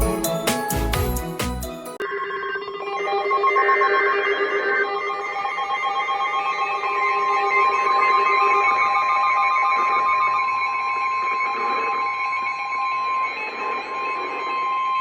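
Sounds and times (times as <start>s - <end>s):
pulsing electronic beep: 2.0s - 15.0s.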